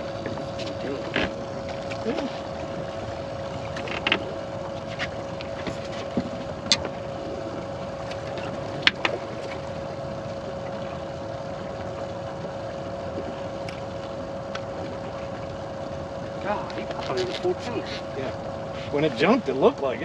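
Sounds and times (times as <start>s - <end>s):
electric motor humming: 0.0s - 20.0s
water noise: 0.0s - 20.0s
wind: 0.0s - 20.0s.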